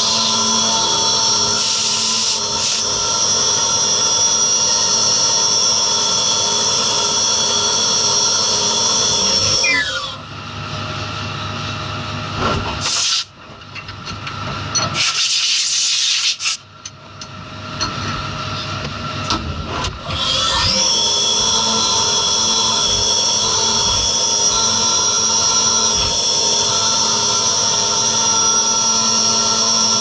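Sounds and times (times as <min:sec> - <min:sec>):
milling machine whining: 0:00.0 - 0:15.0, 0:16.8 - 0:30.0.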